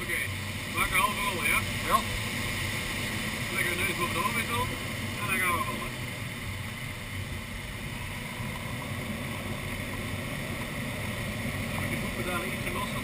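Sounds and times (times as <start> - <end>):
air rushing over glider canopy: 0.0 - 13.0.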